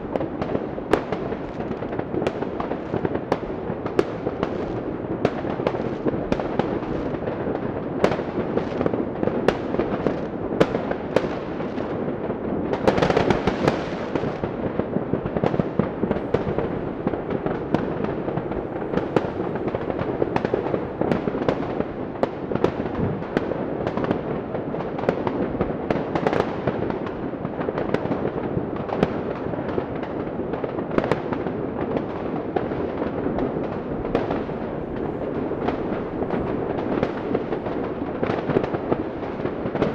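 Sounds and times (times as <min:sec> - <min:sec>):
fireworks crackling and popping: 0:00.0 - 0:39.9
firework bangs: 0:00.1 - 0:39.9.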